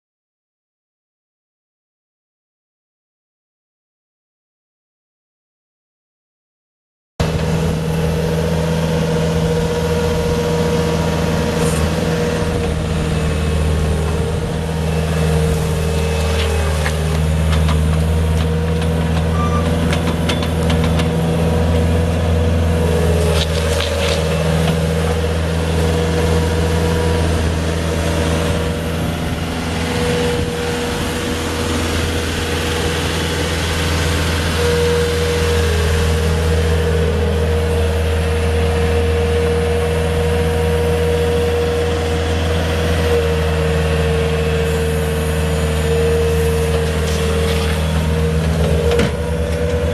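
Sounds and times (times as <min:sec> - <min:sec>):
diesel engine running: 0:07.2 - 0:49.9.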